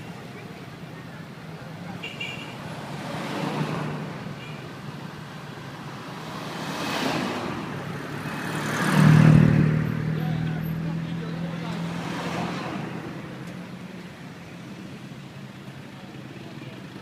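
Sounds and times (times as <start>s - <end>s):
vehicles passing on road: 0.0s - 17.0s.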